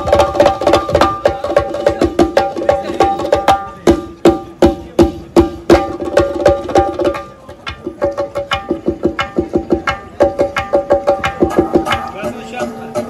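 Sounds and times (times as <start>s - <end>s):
frame drum playing fast rhythm: 0.0s - 13.0s.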